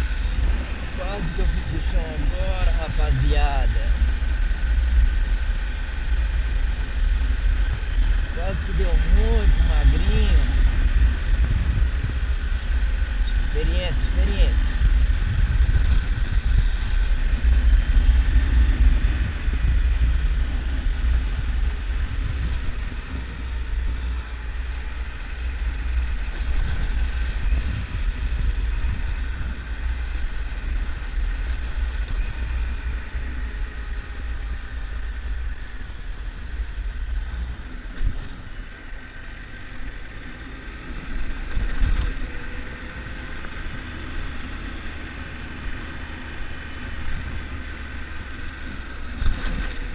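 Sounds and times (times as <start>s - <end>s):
motorcycle engine running: 0.0s - 49.9s
wind rumble on microphone: 0.0s - 49.9s.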